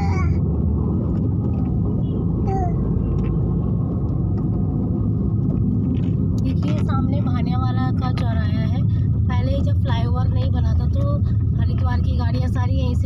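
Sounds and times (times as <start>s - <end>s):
road and engine rumble inside car: 0.0s - 13.0s.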